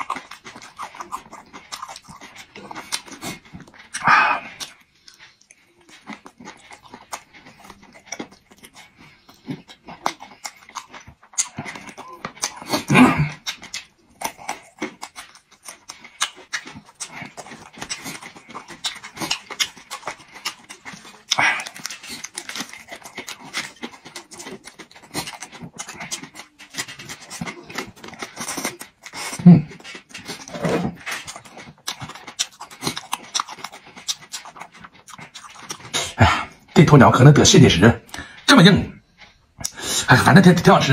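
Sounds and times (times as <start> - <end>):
mouth chewing food: 0.0 - 40.9.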